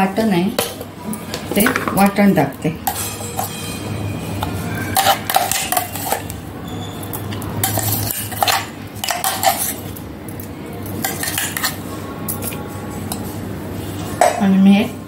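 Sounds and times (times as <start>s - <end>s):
metal spoon clinking against bowls: 0.5s - 13.3s.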